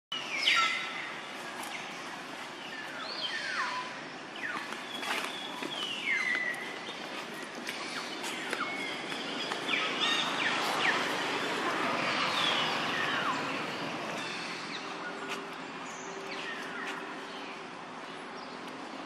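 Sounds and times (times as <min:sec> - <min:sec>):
outdoor background noise: 0:00.1 - 0:19.0.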